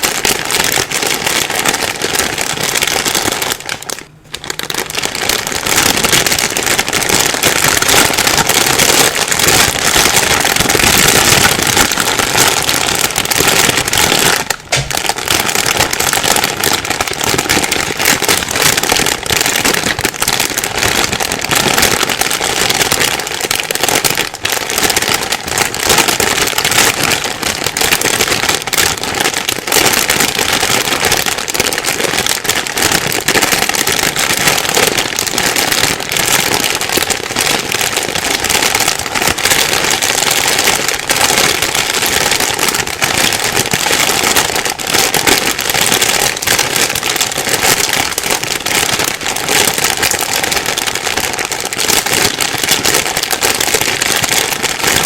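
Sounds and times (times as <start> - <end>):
plastic bag crumpling: 0.0 - 55.0.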